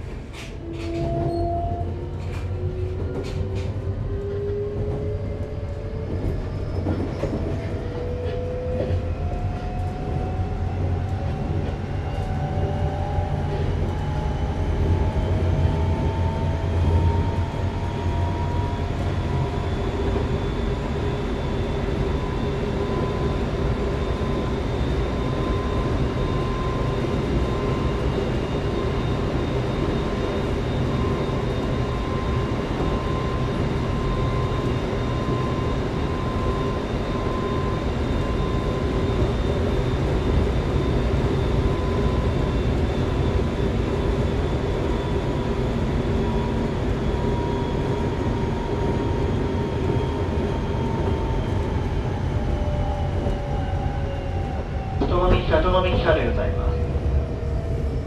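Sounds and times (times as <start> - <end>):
train inverter whine: 0.0 - 58.0
wheels rumbling on rail: 0.0 - 58.0.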